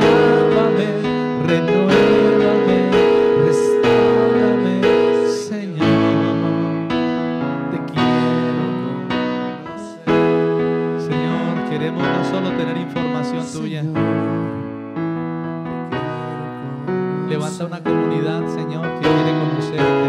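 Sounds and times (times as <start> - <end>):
electronic keyboard playing chords: 0.0 - 20.0.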